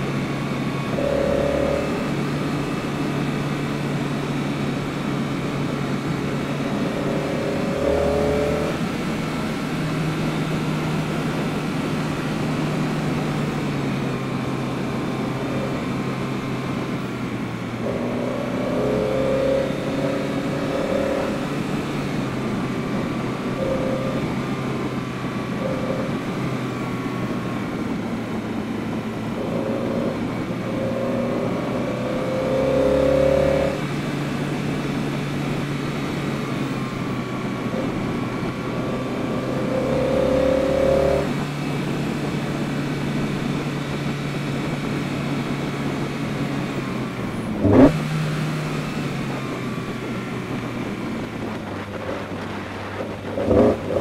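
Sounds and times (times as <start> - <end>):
car engine running: 0.0 - 54.0
tyre and road noise: 0.0 - 54.0.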